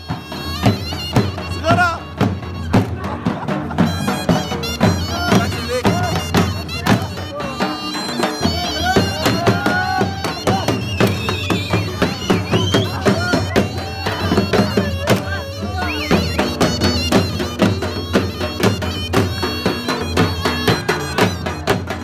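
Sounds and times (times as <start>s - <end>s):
dhol drum beating: 0.0s - 22.0s
reedy surnai melody: 0.0s - 22.0s.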